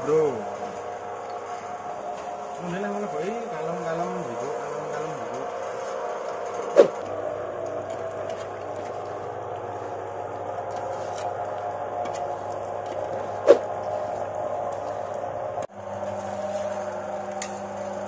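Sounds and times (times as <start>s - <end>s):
electric motor humming: 0.0s - 18.0s.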